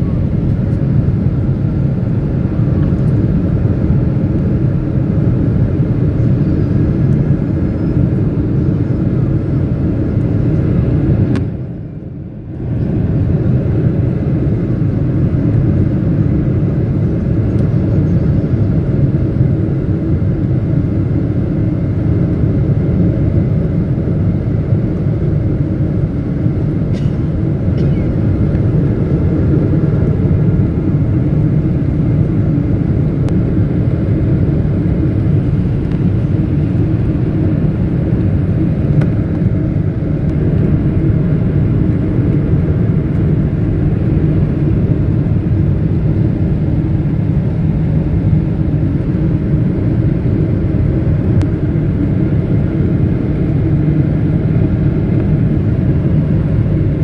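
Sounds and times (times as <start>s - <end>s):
aircraft engines and airflow rumble: 0.0s - 57.0s.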